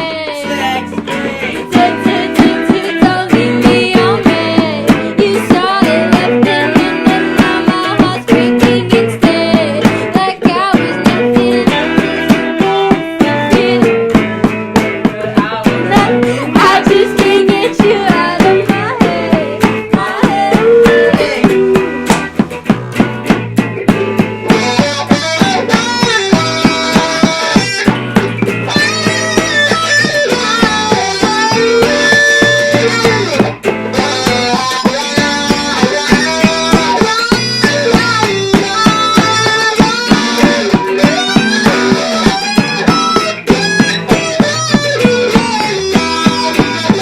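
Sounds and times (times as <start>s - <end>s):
bass guitar: 0.0s - 47.0s
drum kit beat: 0.0s - 47.0s
electric guitar lead: 0.0s - 47.0s.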